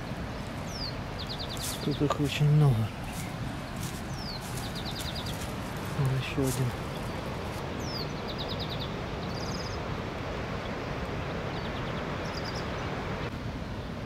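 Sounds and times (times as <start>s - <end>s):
songbirds trilling: 0.0s - 13.9s
steady background hiss: 0.0s - 14.0s.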